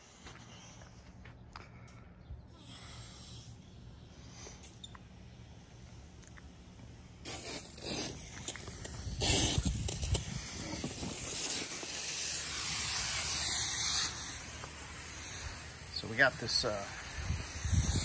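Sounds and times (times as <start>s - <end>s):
garden hose spraying water: 2.5s - 18.0s.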